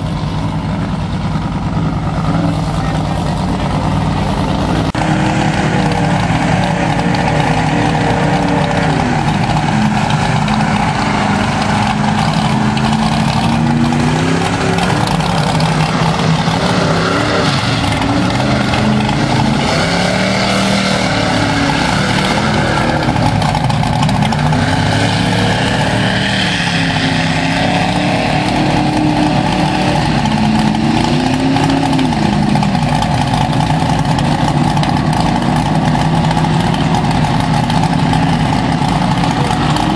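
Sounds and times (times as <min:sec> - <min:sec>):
constant rushing noise: 0:00.0 - 0:39.9
truck engines revving: 0:00.0 - 0:39.9.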